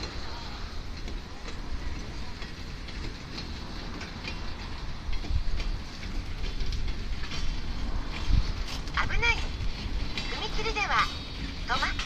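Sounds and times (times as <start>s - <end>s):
train rumbling over rails: 0.0s - 12.0s
wheel clicks: 0.0s - 12.0s.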